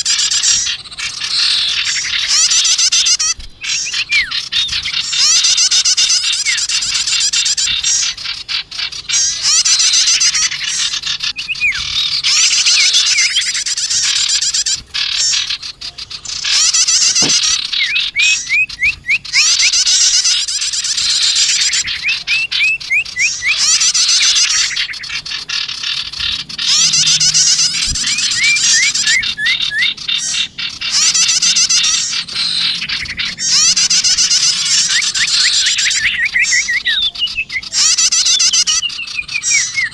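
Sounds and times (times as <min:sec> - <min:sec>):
prinia calls: 0:00.0 - 0:39.9
songbirds chattering: 0:00.0 - 0:39.9.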